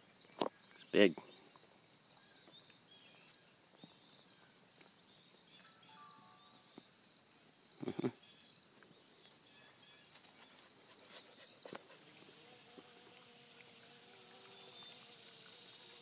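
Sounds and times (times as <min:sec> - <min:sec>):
crickets chirping chorus: 0:00.0 - 0:16.0.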